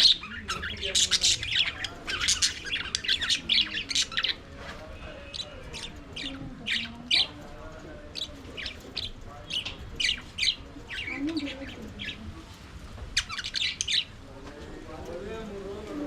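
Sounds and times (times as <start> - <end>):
budgerigars chirping and squawking: 0.0 - 14.2.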